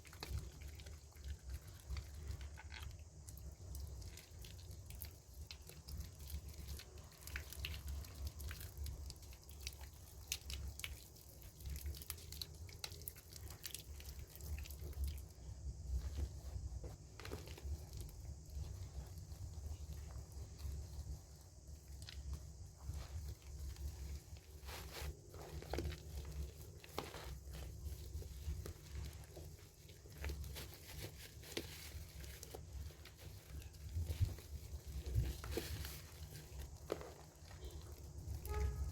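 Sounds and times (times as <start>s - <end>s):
low steady hum: 0.0s - 38.9s
wet soap squishing by hand: 0.0s - 38.9s.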